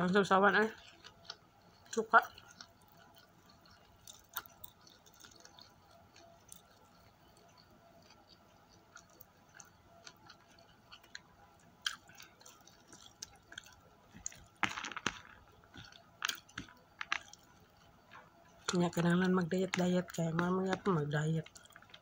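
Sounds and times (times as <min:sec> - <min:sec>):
chewing and mouth sounds: 0:00.6 - 0:22.0
small clicks handling food: 0:00.8 - 0:22.0.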